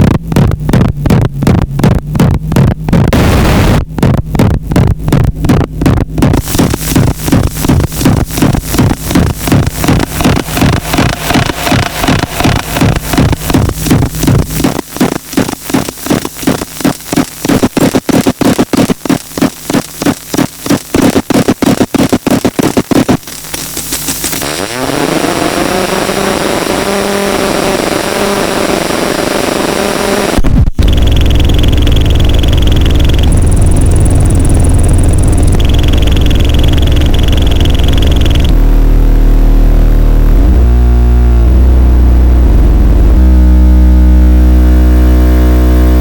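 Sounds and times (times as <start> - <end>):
chaotic electronic glitch noise: 0.0 - 46.0.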